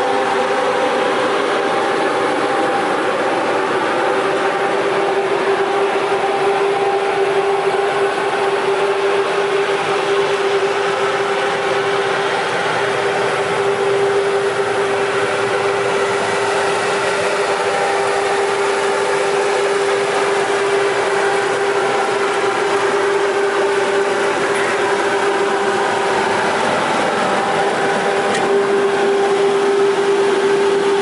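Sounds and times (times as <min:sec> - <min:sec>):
belt sander running: 0:00.0 - 0:31.0.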